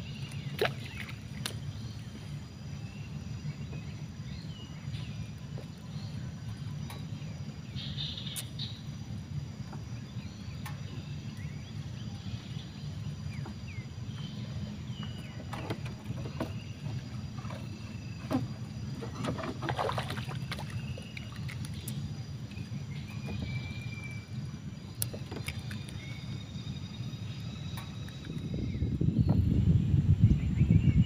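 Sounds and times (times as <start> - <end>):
low rumble of wind and water: 0.0 - 31.0.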